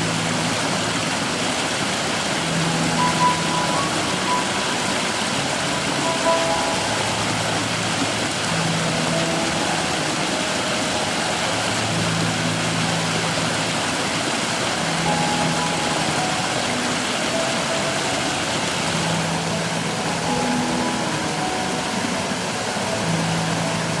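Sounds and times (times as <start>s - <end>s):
stream rushing over rocks: 0.0s - 24.0s
water gurgling: 0.0s - 24.0s.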